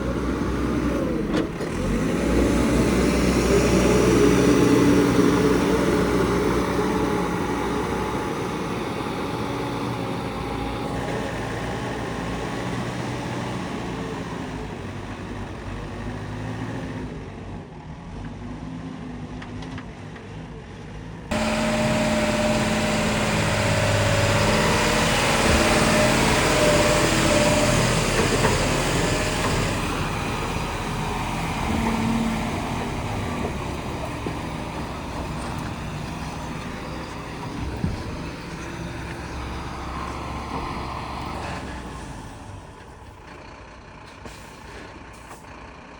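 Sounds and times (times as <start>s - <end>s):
diesel machinery engines under load: 0.0s - 45.9s.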